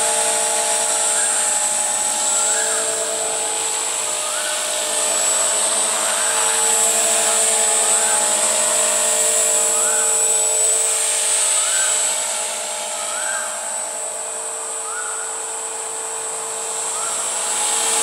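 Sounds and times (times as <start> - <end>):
rc helicopter motor whine: 0.0 - 18.0
rotor humming: 0.0 - 18.0.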